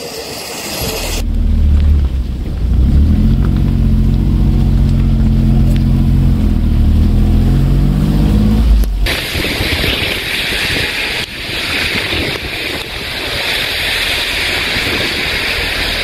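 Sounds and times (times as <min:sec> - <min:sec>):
small car engine driving: 0:00.6 - 0:16.0.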